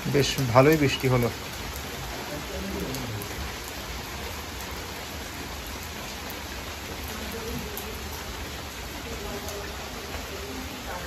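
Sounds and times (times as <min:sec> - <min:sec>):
heavy rain on concrete and plants: 0:00.0 - 0:11.0.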